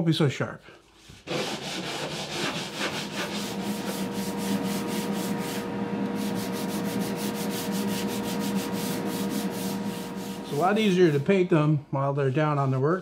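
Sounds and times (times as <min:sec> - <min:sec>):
sandpaper rubbing on wood: 0:00.9 - 0:11.4.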